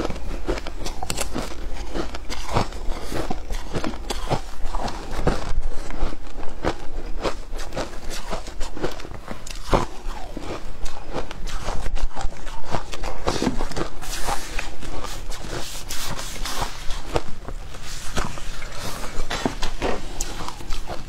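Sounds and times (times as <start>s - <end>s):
chewing ice: 0.0s - 21.0s.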